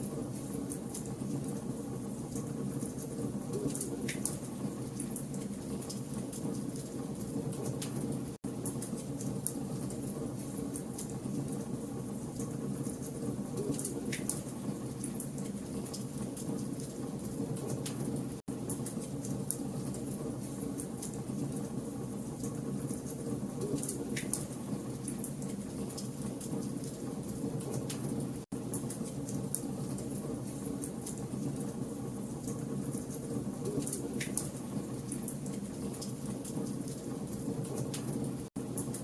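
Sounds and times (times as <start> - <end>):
low rumble of flame: 0.0 - 39.0.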